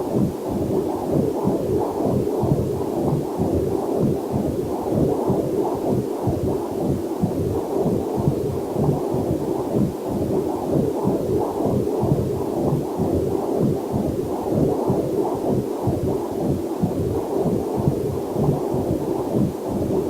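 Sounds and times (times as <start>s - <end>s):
fast heartbeat pulse: 0.0s - 20.0s.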